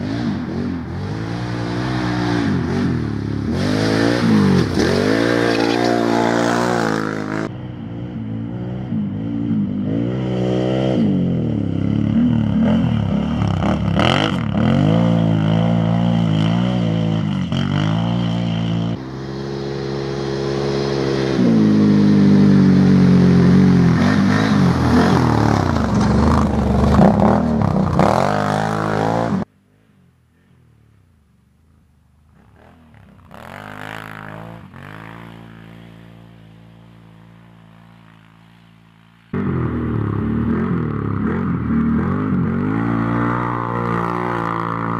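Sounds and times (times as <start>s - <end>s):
quad engine revving: 0.0s - 29.5s, 32.4s - 38.5s, 39.3s - 44.9s
distant engine: 0.0s - 44.9s.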